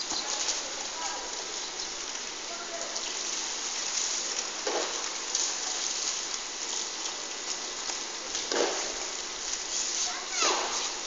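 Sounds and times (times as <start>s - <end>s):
rain on hard surfaces: 0.0s - 11.0s
rain splashes: 0.0s - 11.0s.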